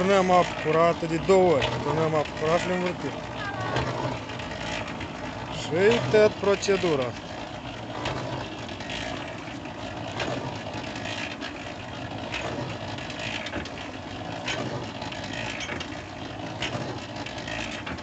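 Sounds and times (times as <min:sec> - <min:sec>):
washing machine mechanical rattle: 0:00.0 - 0:18.0.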